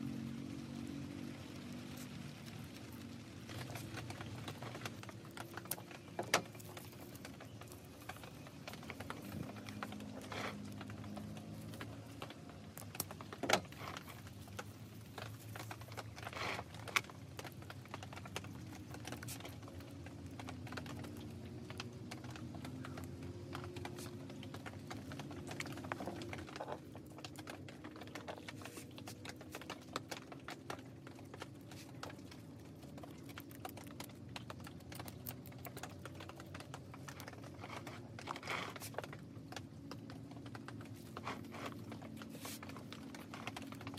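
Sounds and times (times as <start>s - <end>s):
hands working potting soil: 1.0s - 43.9s.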